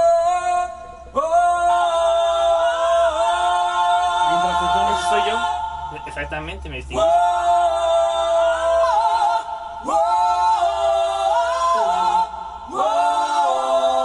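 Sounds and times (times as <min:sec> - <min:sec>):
a cappella vocal harmonies: 0:00.0 - 0:14.0.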